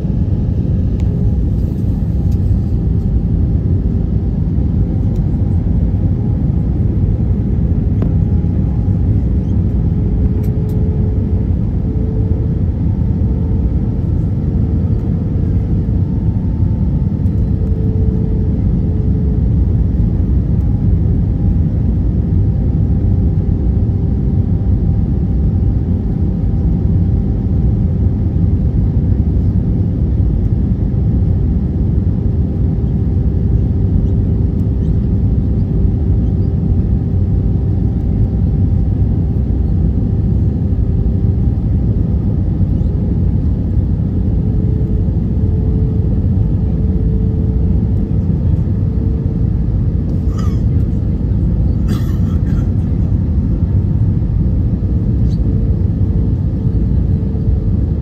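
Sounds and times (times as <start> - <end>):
faint engine tone: 0.0 - 57.9
aircraft cabin engine rumble: 0.0 - 58.0.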